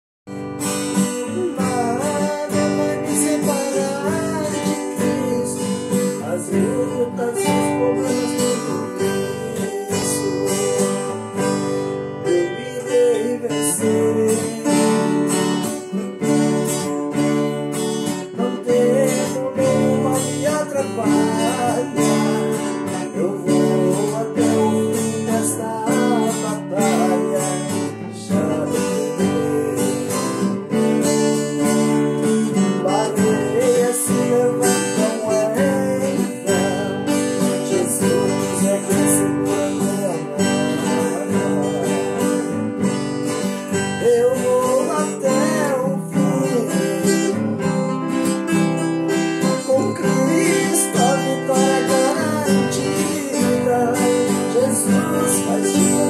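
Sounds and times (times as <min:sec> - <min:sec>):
viola and acoustic guitar strumming: 0:00.3 - 0:56.0.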